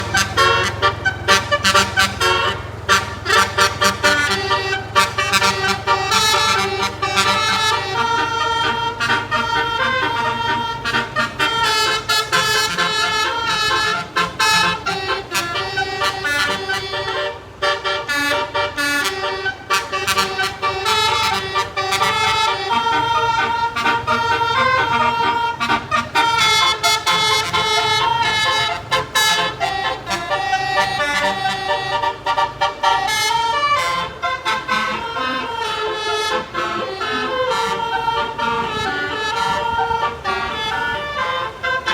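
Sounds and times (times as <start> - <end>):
bus air horns playing a tune: 0.0 - 41.9.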